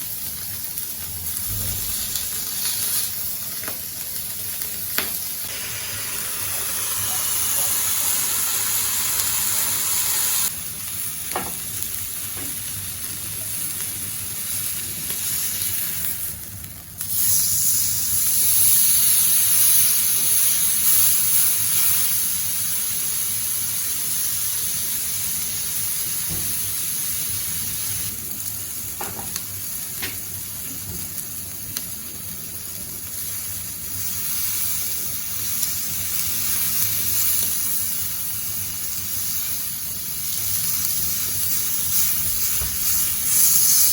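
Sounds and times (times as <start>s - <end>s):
alcohol stove hissing: 0.0s - 43.9s.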